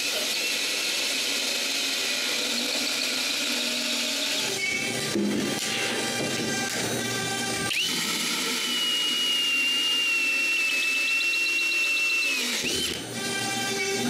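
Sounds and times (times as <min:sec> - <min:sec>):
power drill boring plywood: 0:00.0 - 0:14.0.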